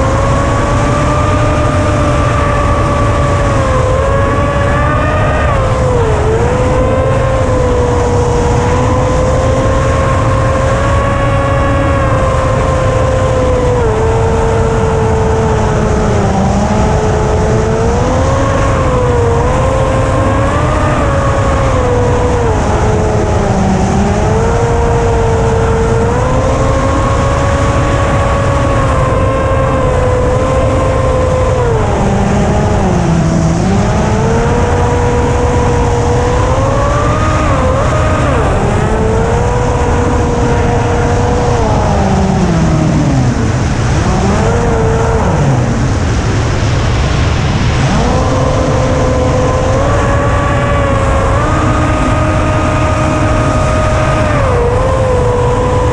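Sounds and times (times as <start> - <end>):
electric motor and propeller whining: 0.0 - 55.9
wind rumble on microphone: 0.0 - 55.9.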